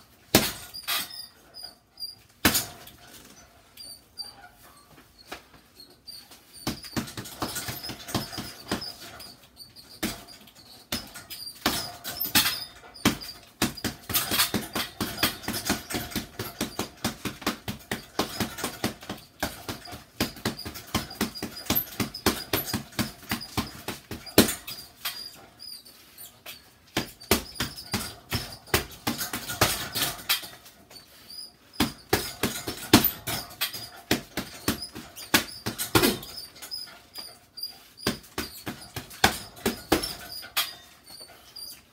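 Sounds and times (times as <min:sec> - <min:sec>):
gloves punching a bag: 0:00.3 - 0:01.0, 0:02.4 - 0:03.3, 0:06.2 - 0:41.8.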